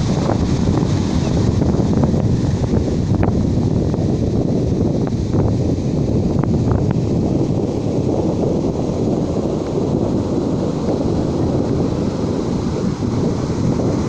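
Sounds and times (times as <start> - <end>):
ocean surf washing ashore: 0.0 - 14.0
wind buffeting microphone: 0.0 - 14.0.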